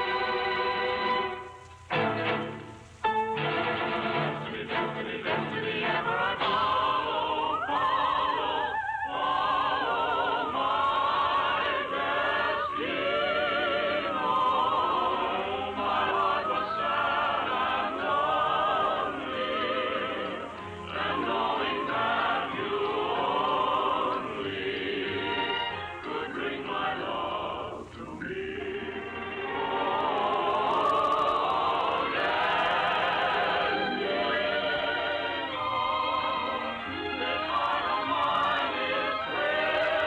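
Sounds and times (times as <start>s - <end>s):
choir singing operatic lines: 0.0s - 40.0s.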